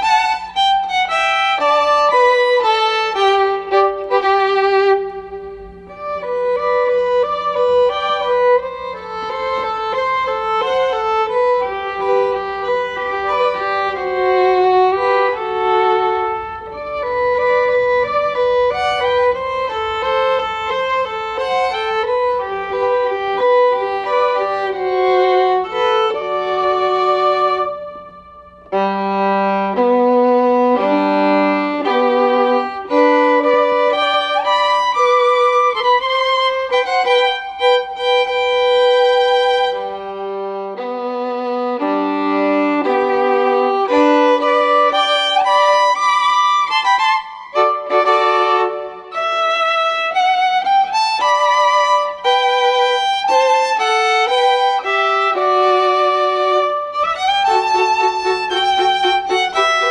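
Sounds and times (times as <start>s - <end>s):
violin melody with accompaniment: 0.0s - 59.9s.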